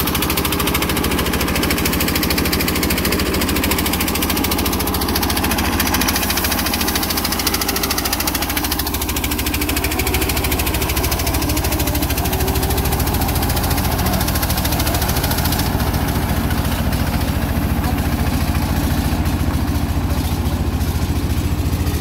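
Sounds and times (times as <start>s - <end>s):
diesel engine chugging: 0.0s - 22.0s.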